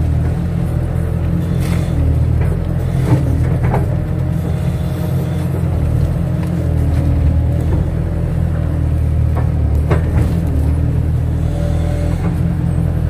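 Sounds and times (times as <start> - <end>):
machine whine: 0.0 - 8.7, 10.3 - 13.0
excavator diesel engine running: 0.0 - 13.0.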